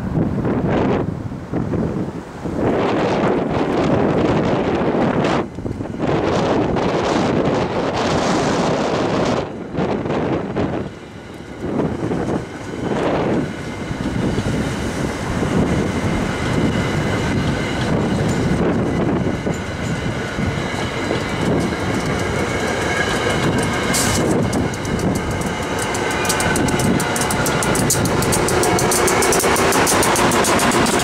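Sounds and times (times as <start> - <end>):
train wheels rumbling on rail: 0.0 - 31.0
rhythmic clicks over rail joints: 5.4 - 31.0.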